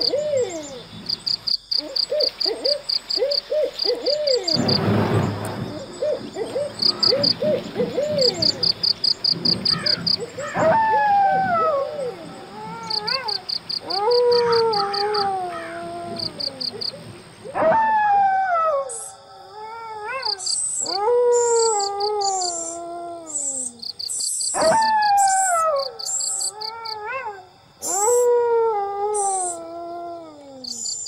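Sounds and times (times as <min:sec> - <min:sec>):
wild canid howling: 0:00.0 - 0:04.9, 0:05.6 - 0:31.0
insects chirping in pulsed trains: 0:00.0 - 0:19.6, 0:20.2 - 0:29.6, 0:30.3 - 0:31.0.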